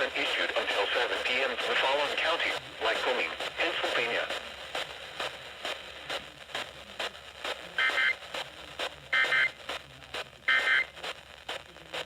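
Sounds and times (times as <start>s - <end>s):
crackling radio static: 0.0s - 12.0s.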